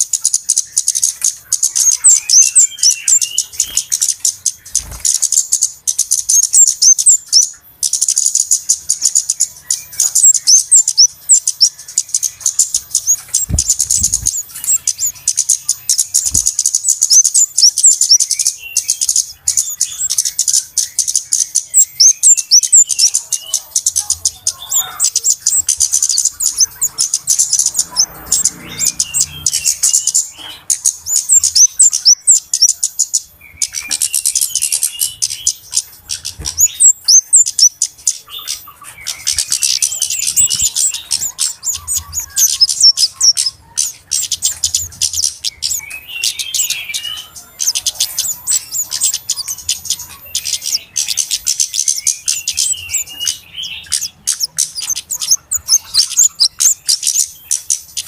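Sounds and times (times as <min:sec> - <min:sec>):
bird chittering: 0:00.0 - 0:58.0.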